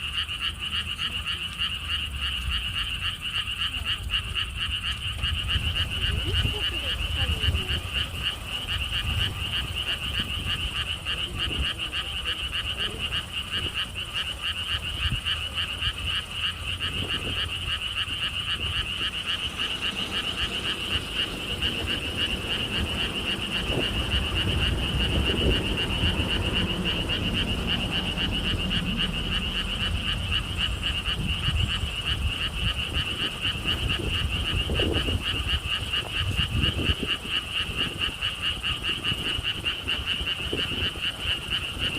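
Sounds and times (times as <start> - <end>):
frogs chorus trilling: 0.0 - 41.9
wind rumbling on microphone: 0.0 - 41.9.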